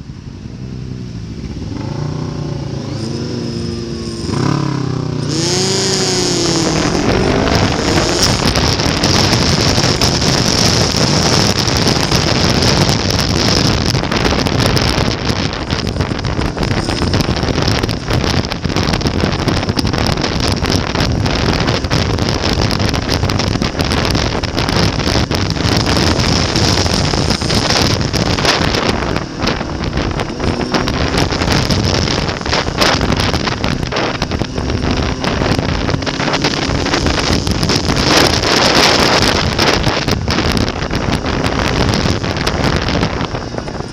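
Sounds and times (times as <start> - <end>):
faint motorcycle engine: 0.0 - 43.9
wind buffeting microphone: 0.0 - 43.9.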